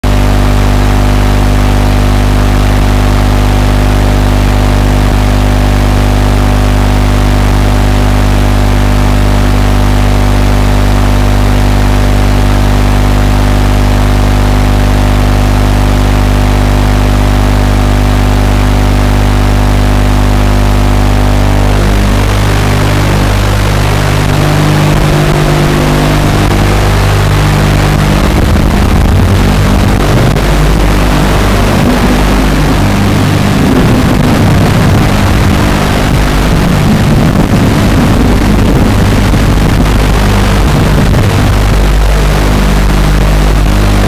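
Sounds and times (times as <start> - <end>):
electrical buzz: 0.0 - 44.0.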